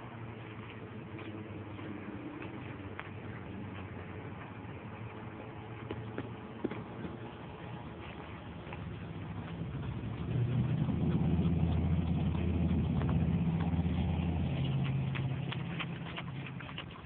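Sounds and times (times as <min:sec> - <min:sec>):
vehicle engine passing: 0:00.0 - 0:17.0.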